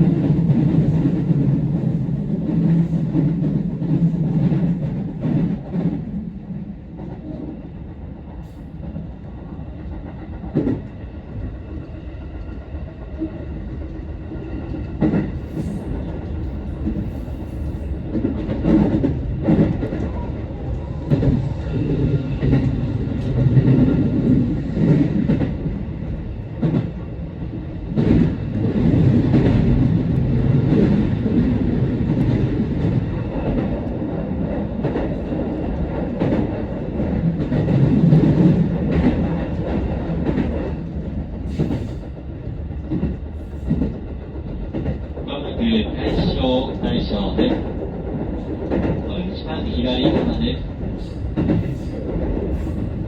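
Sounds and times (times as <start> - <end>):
train wheels and motors rumbling: 0.0 - 53.0.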